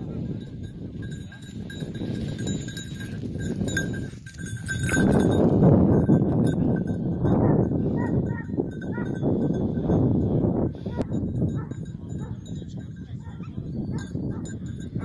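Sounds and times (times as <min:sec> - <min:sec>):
high ringing of bells: 0:00.0 - 0:15.0
low rumbling on microphone: 0:00.0 - 0:15.0.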